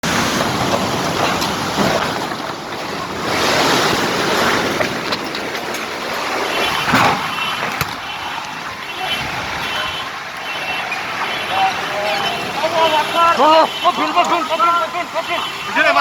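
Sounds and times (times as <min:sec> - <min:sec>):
gusting wind: 0:00.0 - 0:13.0
heavy downpour: 0:00.0 - 0:16.0.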